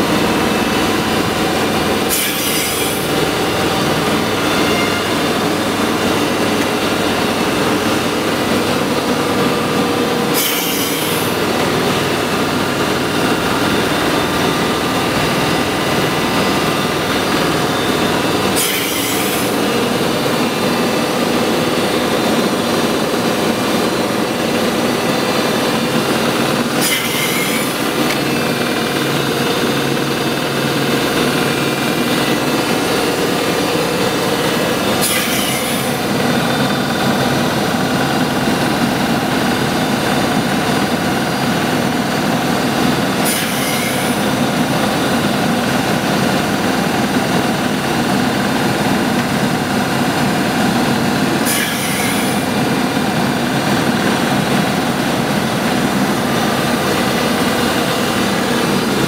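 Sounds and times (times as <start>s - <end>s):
heavy industrial machinery running: 0.0s - 59.0s.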